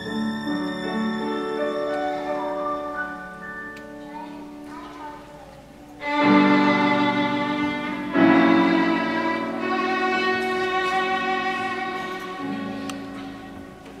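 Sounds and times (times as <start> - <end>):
violin playing: 0.0 - 4.2, 6.0 - 14.0
piano accompaniment: 0.0 - 14.0.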